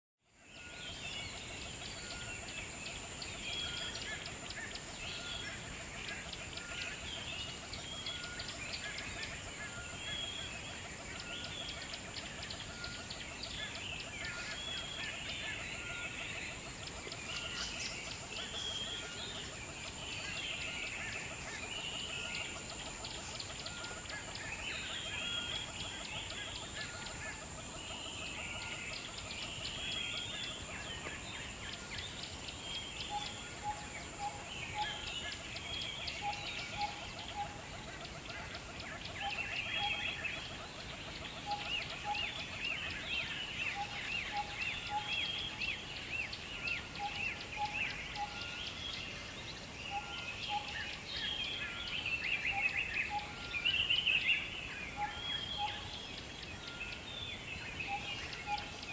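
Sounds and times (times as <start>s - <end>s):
birds calling and chirping: 0.3s - 58.9s
steady high-pitched hiss: 0.3s - 58.9s.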